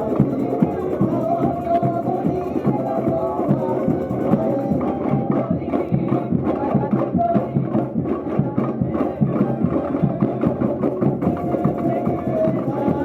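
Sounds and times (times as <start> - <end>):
samba music with dense percussion: 0.0 - 13.0.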